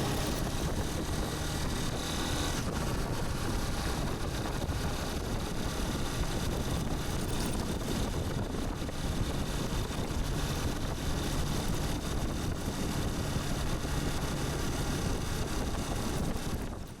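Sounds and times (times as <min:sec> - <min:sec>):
vehicle running low rumble: 0:00.0 - 0:17.0
wind on microphone: 0:00.0 - 0:17.0.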